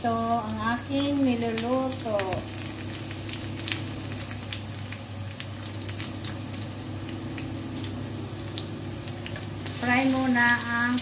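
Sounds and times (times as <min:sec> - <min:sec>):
low hum: 0:00.0 - 0:11.0
potatoes frying in oil: 0:00.0 - 0:11.0.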